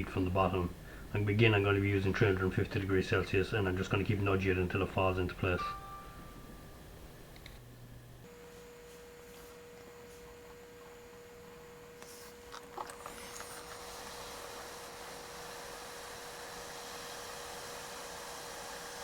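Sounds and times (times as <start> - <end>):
hot air station whine: 0.0 - 19.0.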